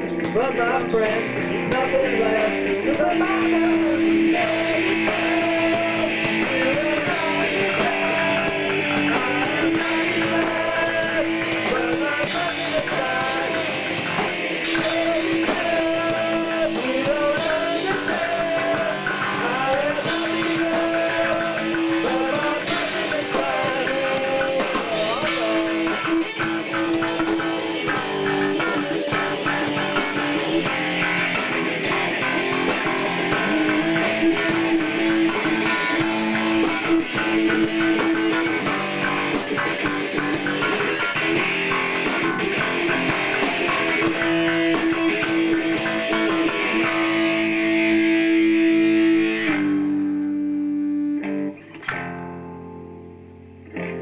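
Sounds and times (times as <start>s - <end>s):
drum kit: 0.0s - 50.8s
electric bass guitar: 0.0s - 54.0s
held pitched notes: 0.0s - 54.0s.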